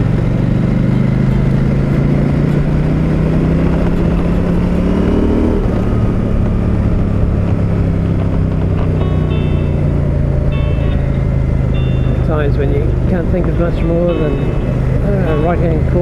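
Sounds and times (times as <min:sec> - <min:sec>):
motorcycle engine pulling: 0:00.0 - 0:16.0.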